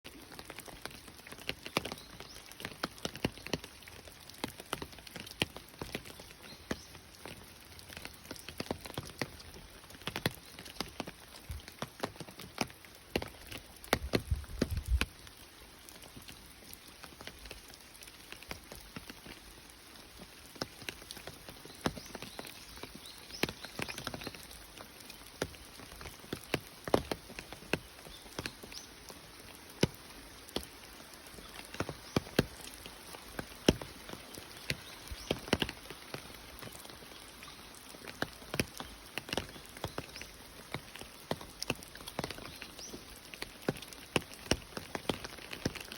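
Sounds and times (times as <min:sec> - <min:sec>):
raindrops ticking on a surface: 0:00.1 - 0:45.9.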